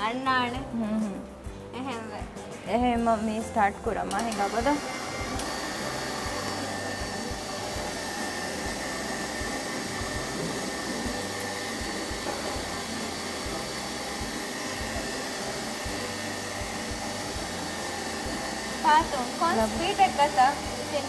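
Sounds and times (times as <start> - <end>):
stand mixer motor beating batter: 4.1 - 21.0.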